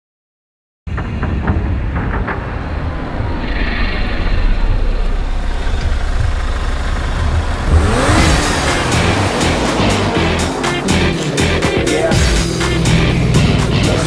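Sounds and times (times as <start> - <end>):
vehicle engine rumbling: 0.9 - 14.0.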